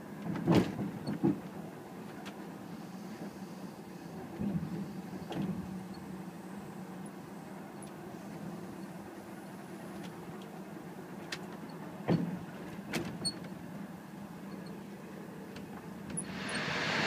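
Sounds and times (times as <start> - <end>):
train running hum: 0.0 - 17.0.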